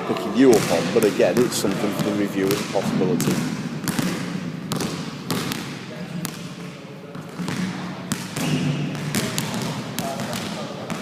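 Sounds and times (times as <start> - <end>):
basketballs bouncing on hard floor: 0.4 - 11.0.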